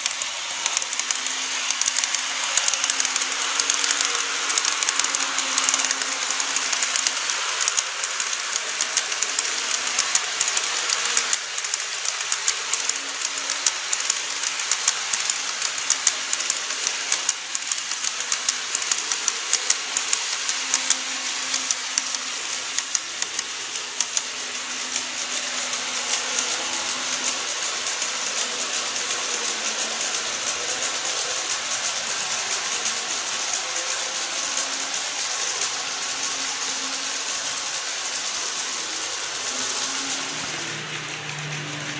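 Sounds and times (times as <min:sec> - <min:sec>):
model train wheels clicking: 0:00.0 - 0:41.9
steady running noise: 0:00.0 - 0:41.9.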